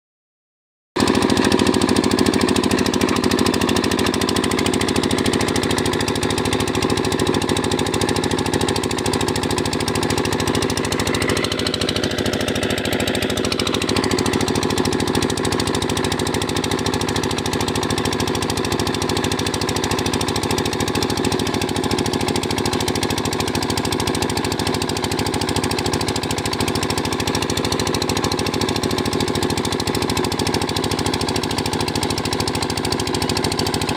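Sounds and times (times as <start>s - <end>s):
drilling rig engine pounding: 1.0s - 33.9s.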